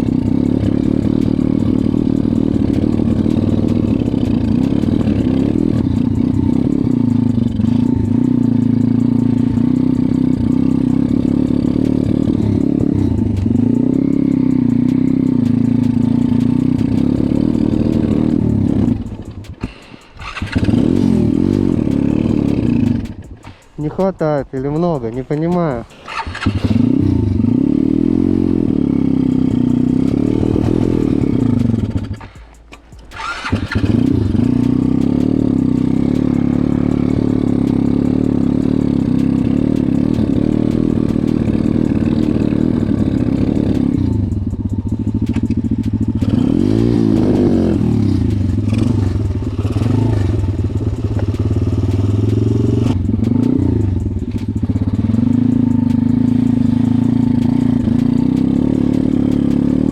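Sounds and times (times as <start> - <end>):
motorbike engine running unevenly: 0.0 - 59.9.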